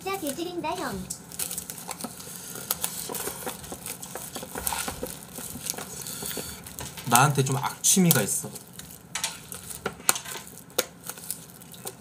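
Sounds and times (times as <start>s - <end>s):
packaging crinkling and tearing: 0.1s - 12.0s.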